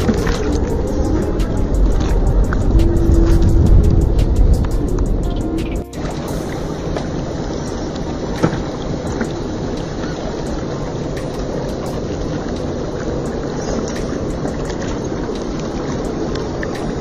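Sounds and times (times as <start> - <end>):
river water running over rocks: 0.0 - 17.0
wind rumbling on microphone: 0.0 - 17.0.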